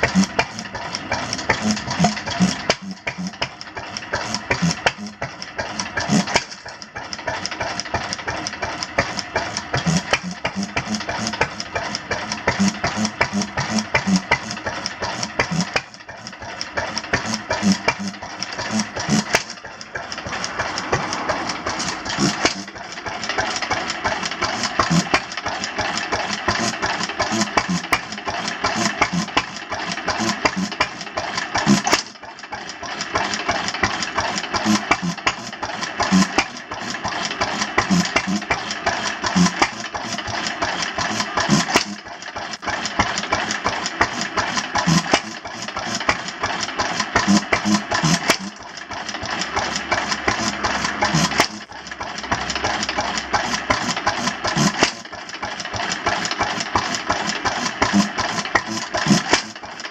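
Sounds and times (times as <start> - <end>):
stationary engine puffing: 0.0 - 59.9.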